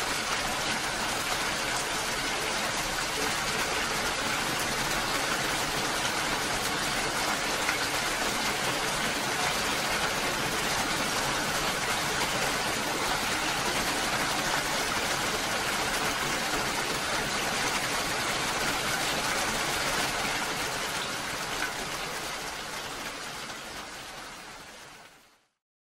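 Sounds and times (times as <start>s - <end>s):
steady rain: 0.0s - 25.6s.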